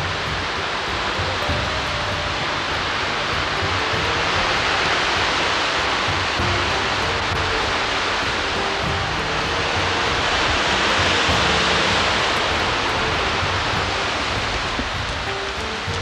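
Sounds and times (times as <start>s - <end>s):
hissing rain downpour: 0.0s - 16.0s.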